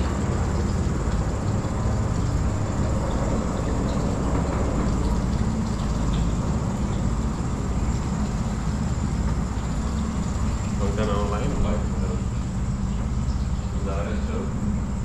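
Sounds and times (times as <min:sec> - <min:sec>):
boat motor droning: 0:00.0 - 0:15.0.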